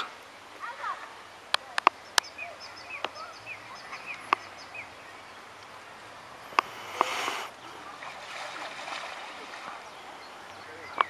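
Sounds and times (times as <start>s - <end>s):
small birds chirping: 0.2s - 11.0s.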